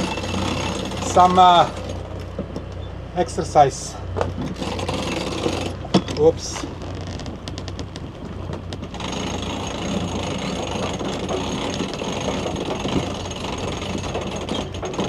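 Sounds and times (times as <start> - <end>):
winch ratchet clicks: 0.0 - 2.4, 4.5 - 15.0
boat engine running: 0.0 - 3.1, 4.1 - 15.0.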